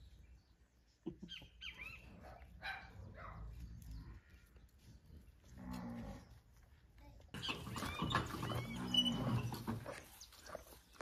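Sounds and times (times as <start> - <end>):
faint farm animal calls: 1.3 - 11.0.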